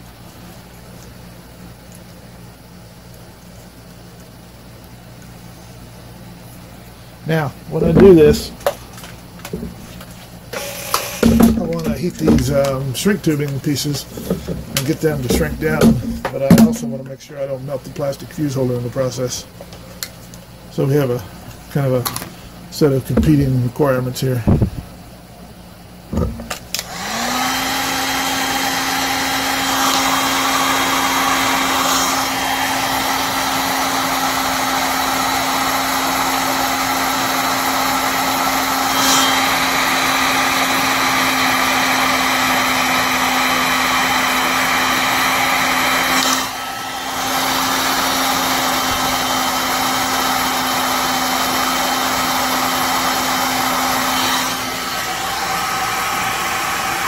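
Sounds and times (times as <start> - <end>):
heat gun fan whine: 0.0 - 57.0.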